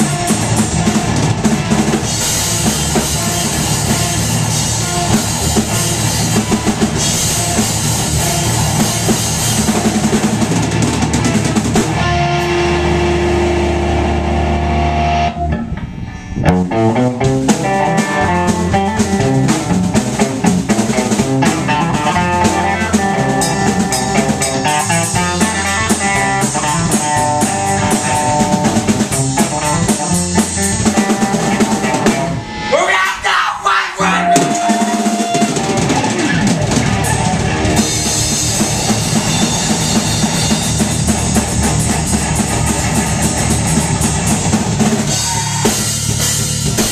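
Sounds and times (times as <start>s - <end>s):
electric guitar: 0.0s - 32.9s, 34.2s - 46.9s
bass guitar: 0.0s - 46.9s
drum kit: 0.0s - 46.9s.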